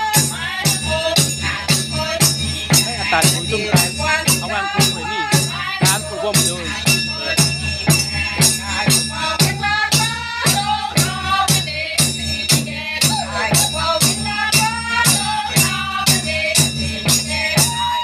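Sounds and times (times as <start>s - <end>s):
voices singing a melody: 0.0s - 18.0s.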